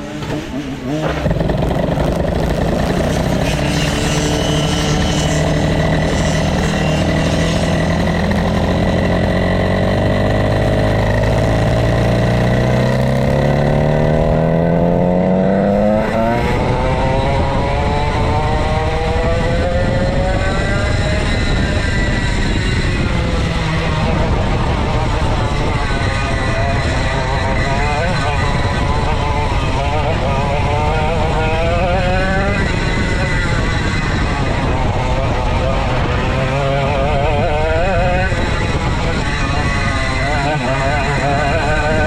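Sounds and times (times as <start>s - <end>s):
go-kart engine running: 0.0s - 42.0s.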